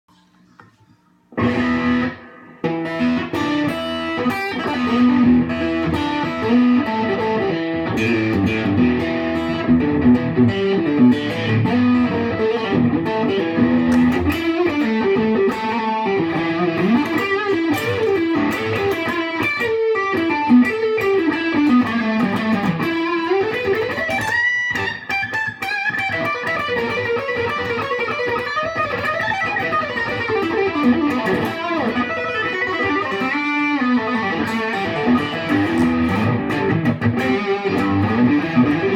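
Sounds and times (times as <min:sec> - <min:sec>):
distorted electric guitar: 0:00.1 - 0:38.9.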